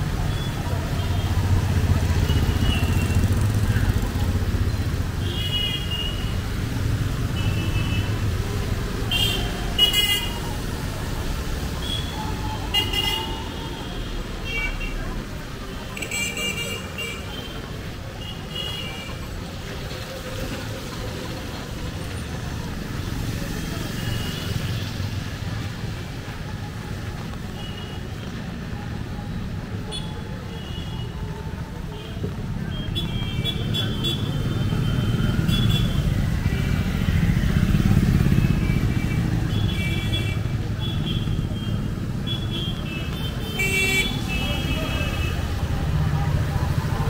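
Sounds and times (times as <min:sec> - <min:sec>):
traffic on wet road: 0:00.0 - 0:47.0.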